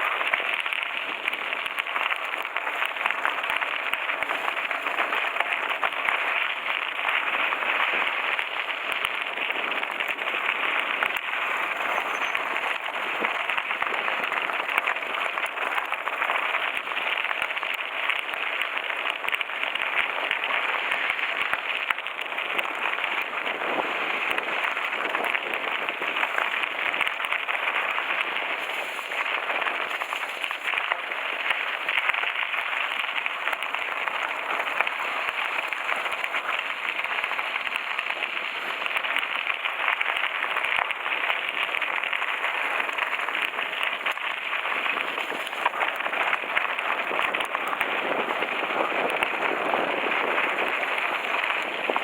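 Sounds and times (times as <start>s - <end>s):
bike tyres rolling on gravel: 0.0s - 52.0s.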